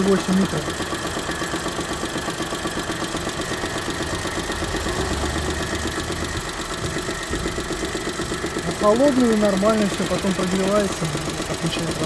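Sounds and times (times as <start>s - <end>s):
car engine idling with rhythmic knock: 0.0s - 12.0s.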